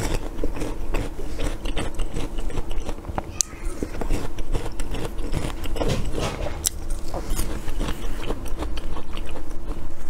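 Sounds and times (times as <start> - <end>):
person chewing crunchy food: 0.0 - 10.0.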